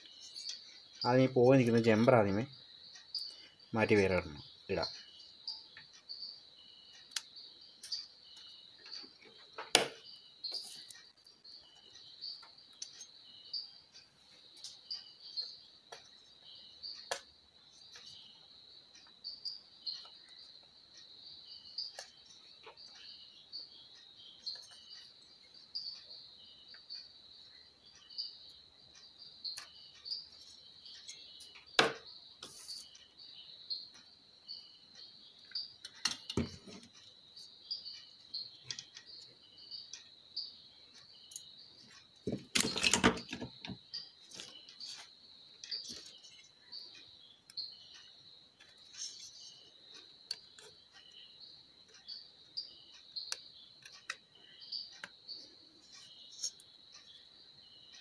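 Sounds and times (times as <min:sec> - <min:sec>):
insect chirping trill: 0:00.0 - 0:58.0.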